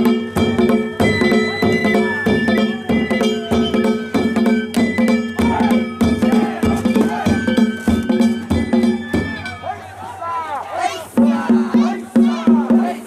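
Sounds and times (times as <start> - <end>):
taiko drum beating: 0.0 - 9.6, 11.1 - 13.0.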